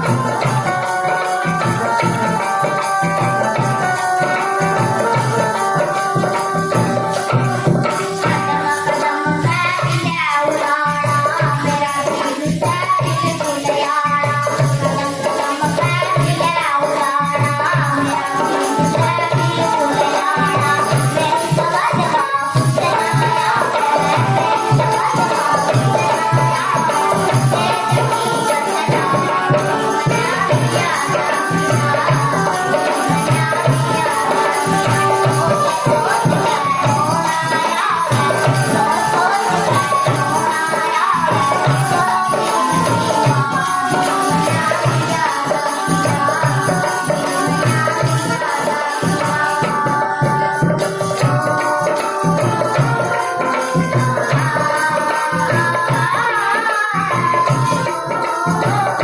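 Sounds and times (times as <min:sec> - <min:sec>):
hand drum beat: 0:00.0 - 0:59.0
jingling percussion: 0:00.0 - 0:59.0.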